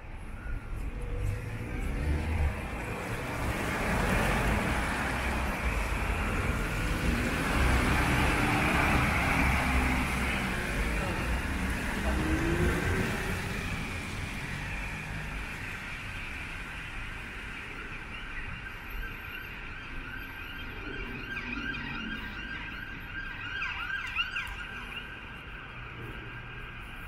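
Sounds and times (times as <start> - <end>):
city traffic noise: 0.0 - 27.0
emergency vehicle siren: 0.0 - 27.0.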